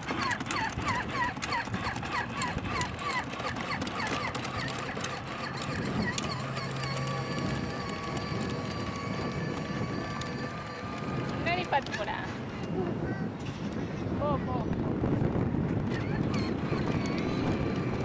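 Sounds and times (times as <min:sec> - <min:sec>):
toy ride-on vehicle squeaking: 0:00.0 - 0:13.9, 0:15.6 - 0:18.0
high-pitched motor whine: 0:00.0 - 0:18.0.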